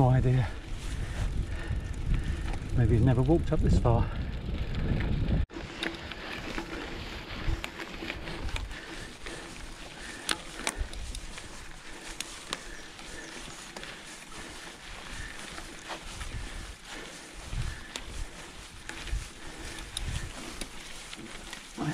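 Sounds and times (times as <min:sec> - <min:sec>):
bike clicks and rattles: 0:00.0 - 0:21.9
bike tyres on dirt track: 0:00.0 - 0:21.9.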